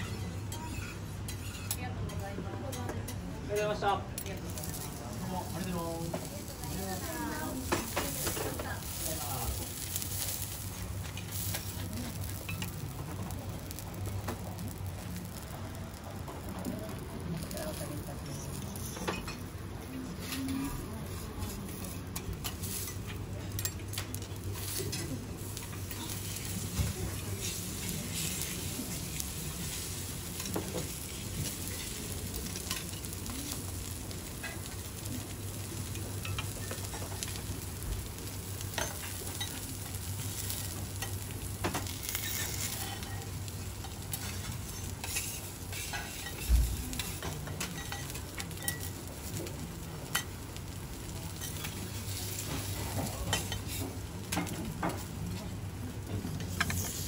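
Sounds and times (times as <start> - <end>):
meat sizzling on a griddle: 0.0 - 57.0.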